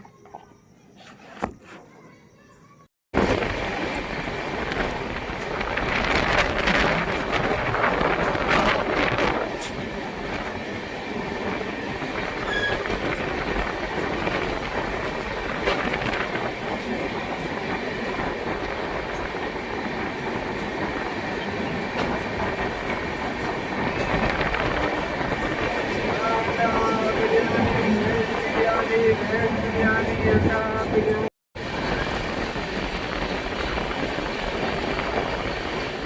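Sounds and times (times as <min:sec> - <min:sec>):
train rumbling on rails: 0:03.2 - 0:36.0.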